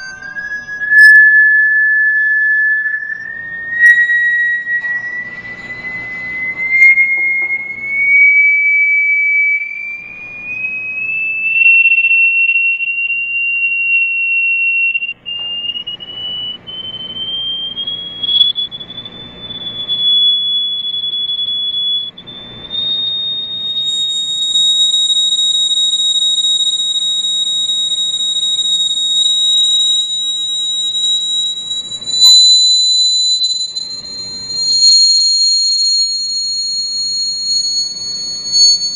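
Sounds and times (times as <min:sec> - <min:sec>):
high electronic test tone: 0:00.0 - 0:38.9.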